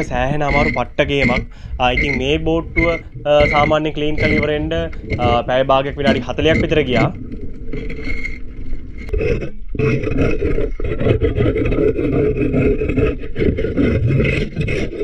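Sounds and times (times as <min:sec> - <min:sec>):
scraper rasping on hull: 0:00.0 - 0:07.2, 0:09.1 - 0:15.0.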